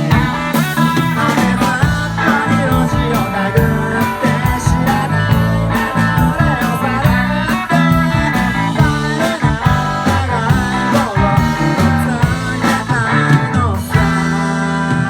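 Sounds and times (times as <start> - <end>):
guitar-led rock music: 0.0 - 15.0.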